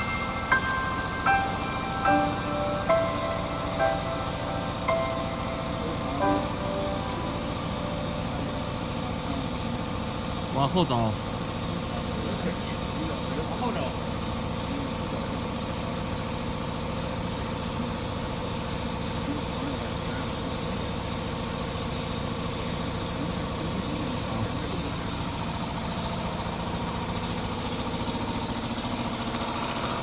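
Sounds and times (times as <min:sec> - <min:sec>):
electric machine hum: 0:00.0 - 0:30.0.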